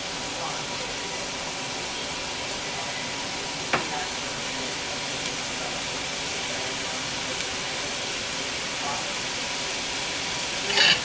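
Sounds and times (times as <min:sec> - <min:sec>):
onion sizzling in a pan: 0:00.0 - 0:11.0.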